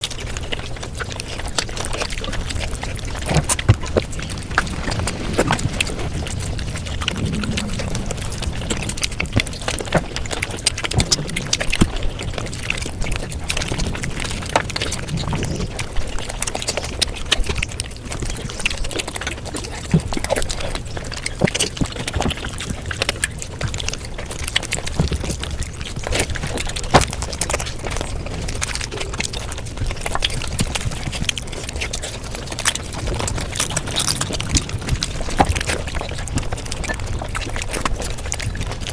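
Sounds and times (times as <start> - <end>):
rapid chewing and mouth noises: 0.0 - 38.9
sharp clicks and crunches: 0.0 - 38.9.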